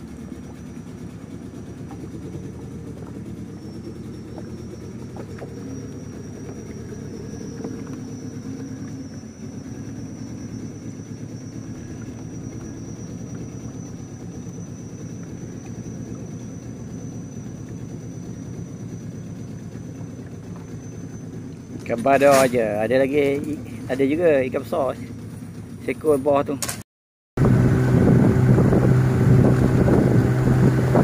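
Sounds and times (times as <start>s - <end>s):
boat engine rumbling: 0.0s - 26.8s, 27.4s - 31.0s.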